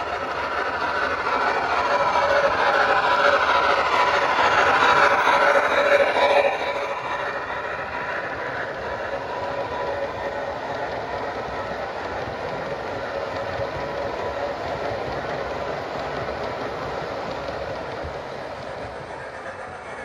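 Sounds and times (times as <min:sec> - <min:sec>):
model train wheels rumbling on rails: 0:00.0 - 0:20.0.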